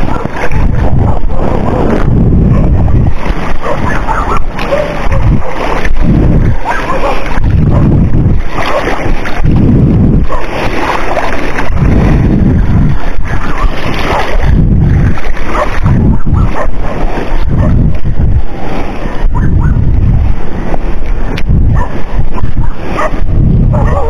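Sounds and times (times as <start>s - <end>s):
sea: 0.0s - 24.0s
wind buffeting microphone: 0.0s - 24.0s.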